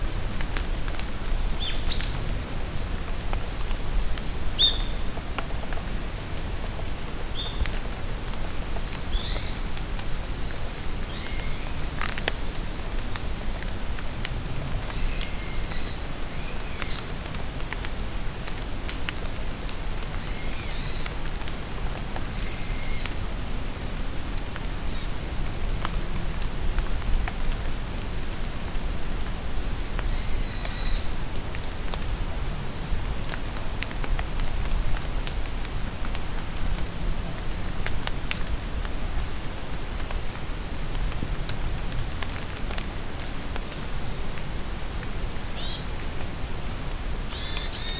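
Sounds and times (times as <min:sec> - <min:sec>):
rain falling in forest: 0:00.0 - 0:47.9
raindrops ticking: 0:00.1 - 0:47.4.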